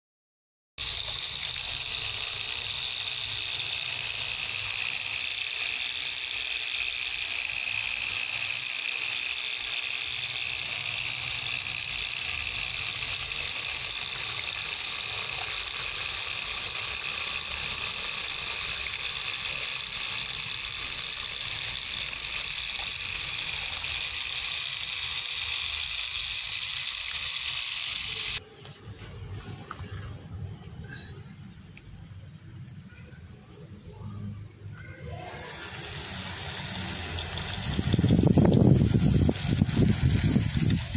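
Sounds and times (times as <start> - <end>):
small motor whirring: 0.8 - 28.4, 33.7 - 40.9.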